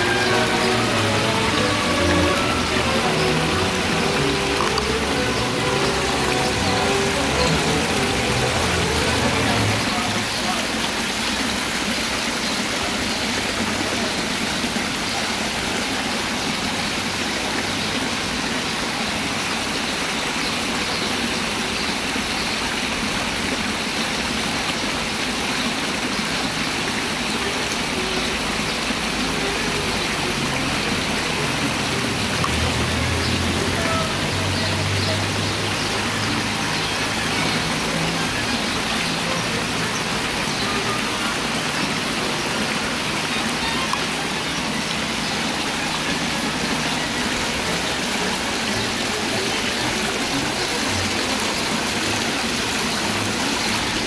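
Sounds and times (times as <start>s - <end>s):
fountain water rushing and splashing: 0.0s - 54.0s.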